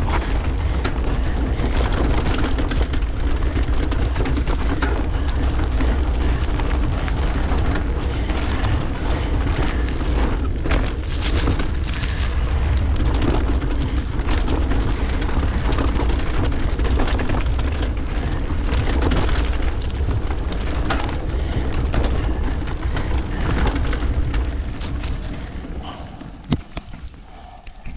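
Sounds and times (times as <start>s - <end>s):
bike clicking and rattling: 0.0s - 27.9s
wind buffeting microphone: 0.0s - 27.9s.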